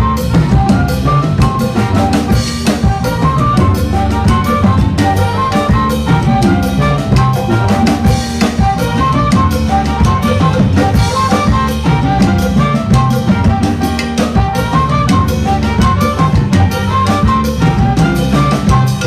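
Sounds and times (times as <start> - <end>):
bass: 0.0 - 19.0
drum kit: 0.0 - 19.0
horn section: 0.0 - 19.0
piano: 0.0 - 19.0
timbales and congas: 0.0 - 19.0.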